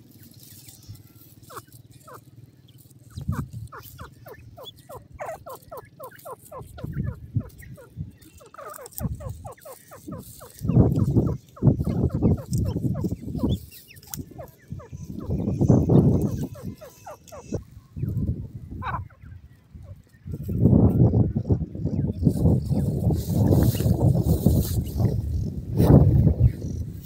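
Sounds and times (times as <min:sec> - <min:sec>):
francolins chirping: 0:00.0 - 0:27.0.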